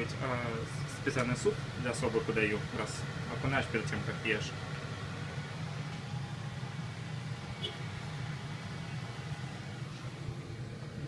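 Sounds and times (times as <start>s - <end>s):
household background hum and hiss: 0.0s - 11.0s.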